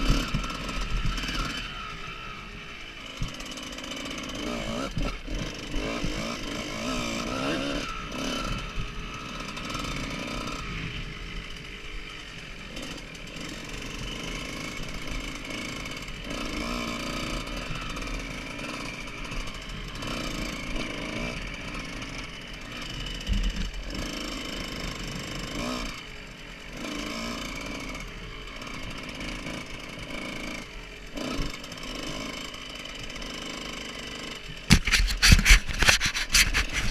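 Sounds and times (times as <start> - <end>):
motocross bike engine revving: 0.0 - 36.9.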